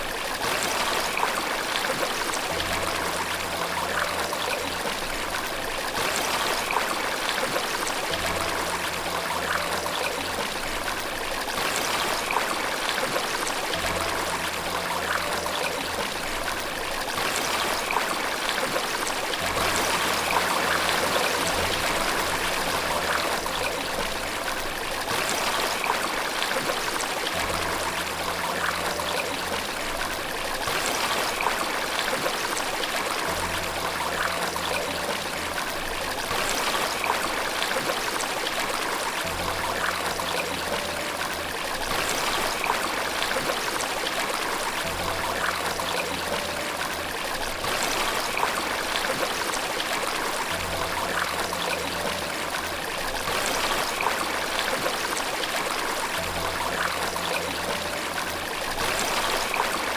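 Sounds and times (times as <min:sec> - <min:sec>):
running water splashing: 0:00.0 - 0:59.9
soft piano music: 0:00.0 - 0:59.9.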